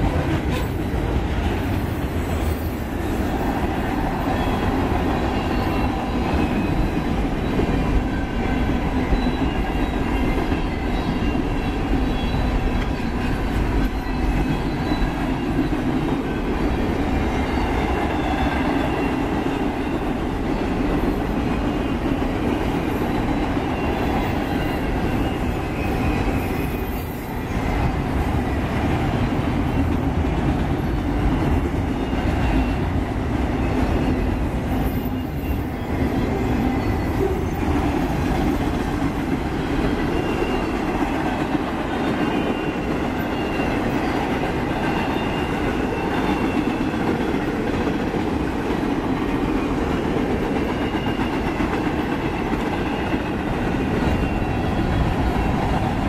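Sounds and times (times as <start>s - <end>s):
steel wheels clattering on rails: 0.0s - 56.0s.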